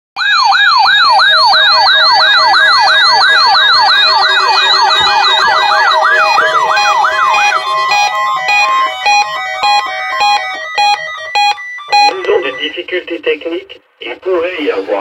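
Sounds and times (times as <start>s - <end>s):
weather alert radio siren whooping: 0.2s - 12.8s.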